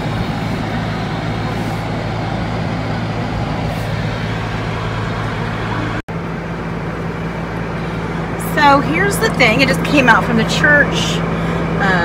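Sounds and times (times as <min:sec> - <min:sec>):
car engine hum from cabin: 0:00.0 - 0:12.0
rushing road noise: 0:00.0 - 0:12.0.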